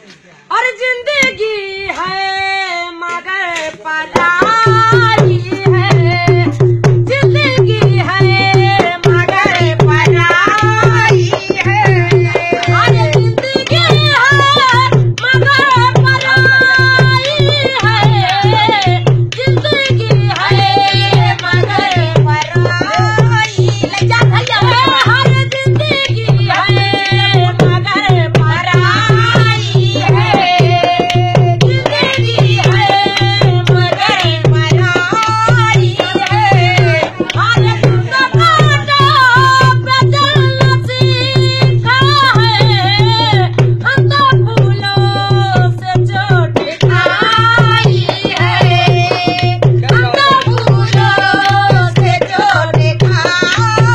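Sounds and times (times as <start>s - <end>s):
woman singing folk song: 0.5s - 53.9s
hand drum rhythm: 3.2s - 53.9s.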